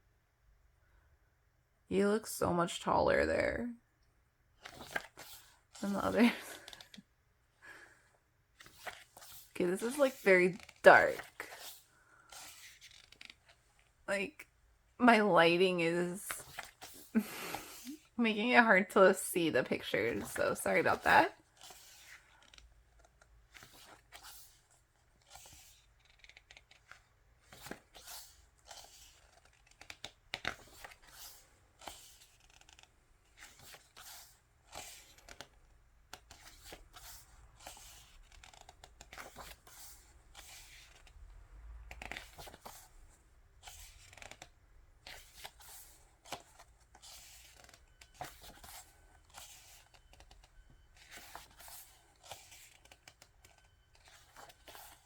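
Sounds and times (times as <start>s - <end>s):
pages turning: 4.6s - 7.0s, 8.6s - 13.9s, 16.3s - 18.1s, 19.8s - 41.2s, 41.9s - 55.0s.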